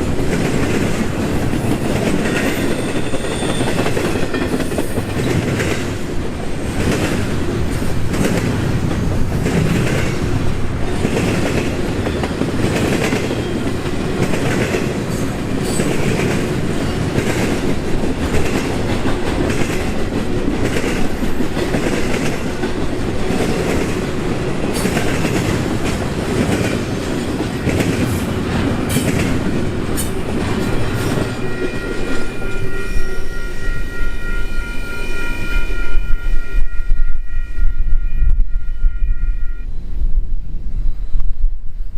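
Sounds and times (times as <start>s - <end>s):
freight train rumbling: 0.0s - 41.9s.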